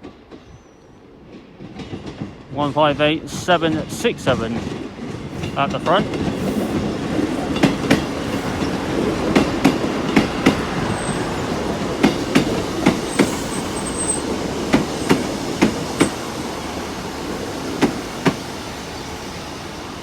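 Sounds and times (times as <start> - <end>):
train wheels clicking over rail joints: 0.0 - 16.4, 17.0 - 18.6
train rumble: 0.0 - 20.0.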